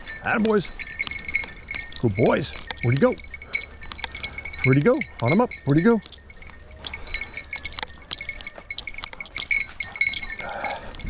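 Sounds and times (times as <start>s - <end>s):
dog collar bells jingling: 0.0s - 11.0s.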